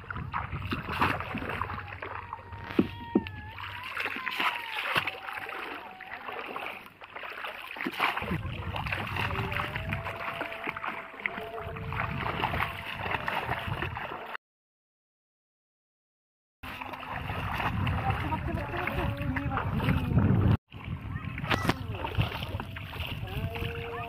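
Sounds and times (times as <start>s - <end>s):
shallow water splashing: 0.0s - 14.4s, 16.6s - 24.0s.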